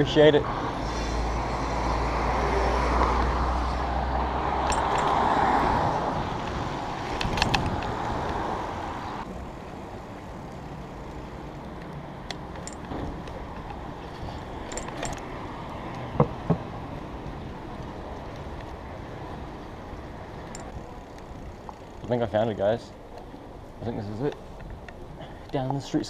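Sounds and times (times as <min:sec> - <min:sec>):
passing vehicles rumbling: 0:00.0 - 0:26.0.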